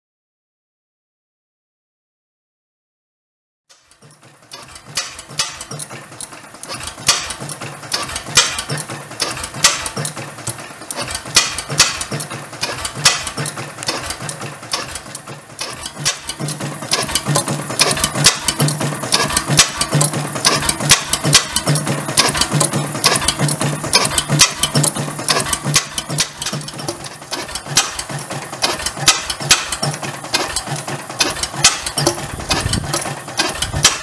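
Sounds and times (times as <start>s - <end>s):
oil engine valve gear clattering: 3.7s - 34.0s
sharp engine cracks: 3.8s - 34.0s.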